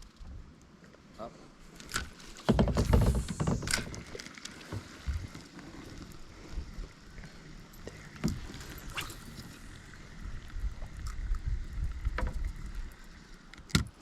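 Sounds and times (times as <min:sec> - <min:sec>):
rush of wind and water: 0:01.2 - 0:14.0.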